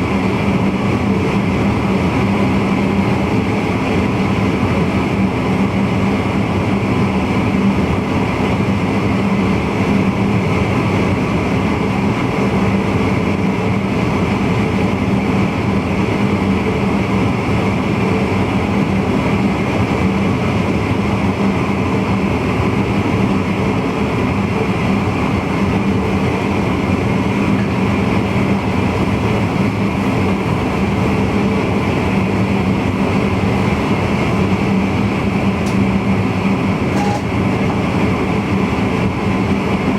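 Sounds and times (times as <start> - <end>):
steady hum: 0.0 - 39.9
train wheels rumbling on rail: 0.0 - 39.9.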